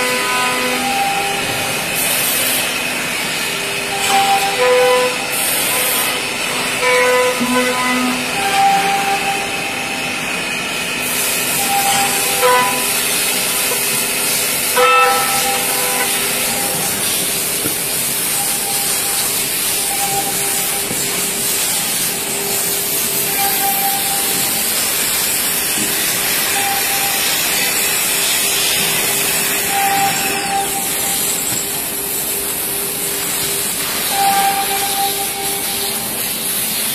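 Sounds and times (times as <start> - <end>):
machine hissing with spindle whine: 0.0 - 36.9.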